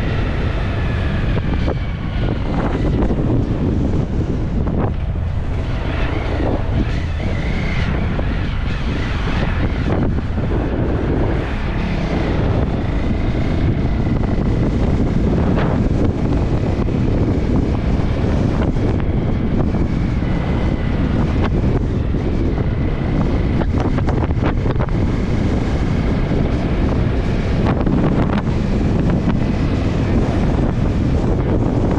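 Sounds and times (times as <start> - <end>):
faint steady whine: 0.0 - 31.9
vehicle running: 0.0 - 31.9
wind buffeting microphone: 0.0 - 31.9.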